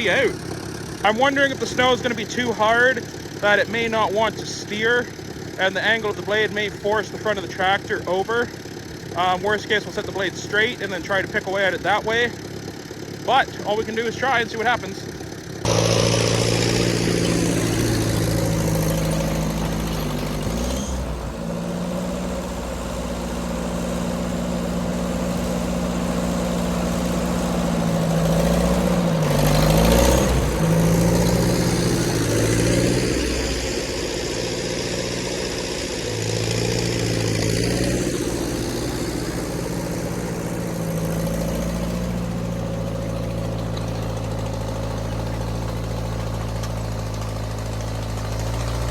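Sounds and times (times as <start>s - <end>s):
tractor engine under load: 0.0s - 48.9s.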